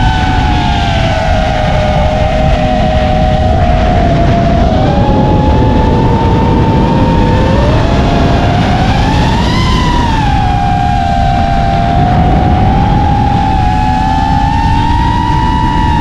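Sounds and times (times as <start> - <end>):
quadcopter motors whining: 0.0 - 16.0
rushing rumble: 0.0 - 16.0.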